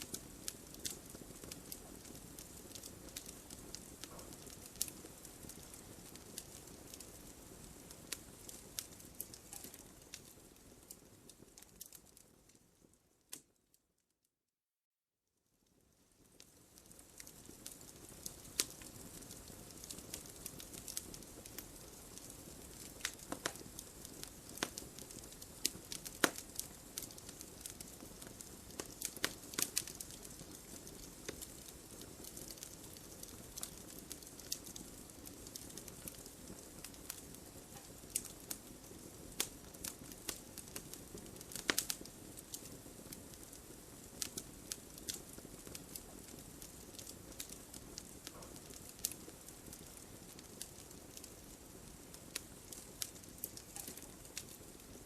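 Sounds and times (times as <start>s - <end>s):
burning wood crackling and popping: 0.0s - 13.6s, 15.7s - 55.0s
hiss of fireplace flames: 0.0s - 13.6s, 15.6s - 55.0s.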